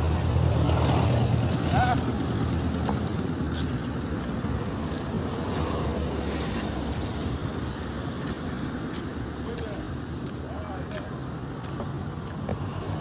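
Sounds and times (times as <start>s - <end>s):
tyres on road: 0.0s - 13.0s
vehicle engines running: 0.0s - 13.0s.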